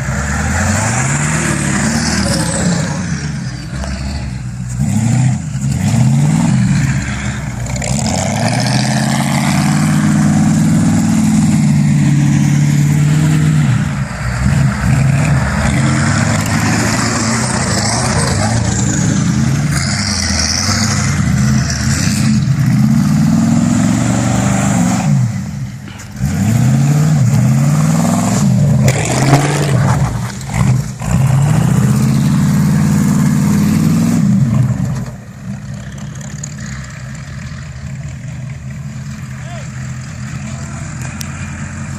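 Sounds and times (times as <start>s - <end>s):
truck engine revving: 0.0s - 41.9s.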